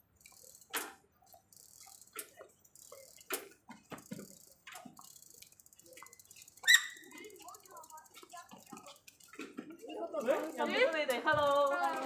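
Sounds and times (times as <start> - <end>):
faint clicks and knocks: 0.0 - 12.0.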